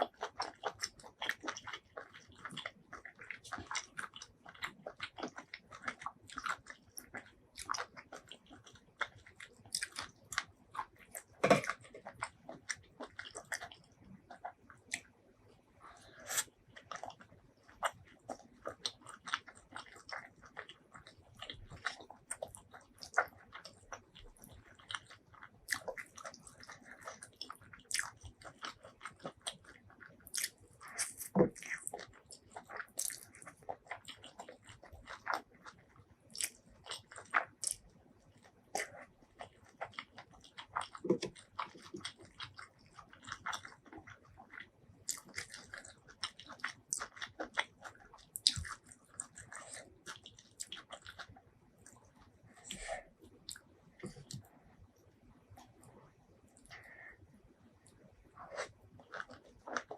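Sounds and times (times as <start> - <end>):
wet chewing and lip-smacking: 0.0 - 59.9.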